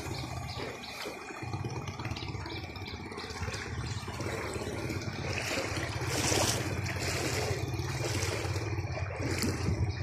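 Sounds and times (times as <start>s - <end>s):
low engine hum: 0.0s - 10.0s
water rushing and splashing: 0.0s - 10.0s.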